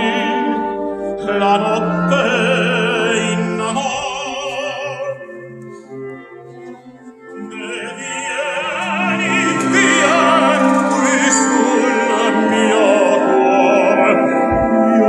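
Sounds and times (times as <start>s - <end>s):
operatic singing with vibrato: 0.0s - 15.0s
orchestra playing: 0.0s - 15.0s.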